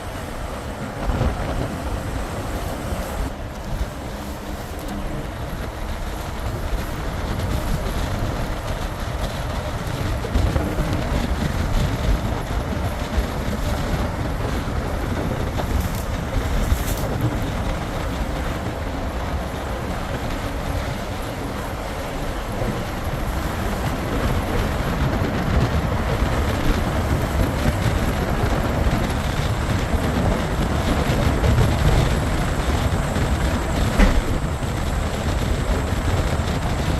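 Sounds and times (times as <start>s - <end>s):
vehicle interior rumble: 0.0s - 36.9s.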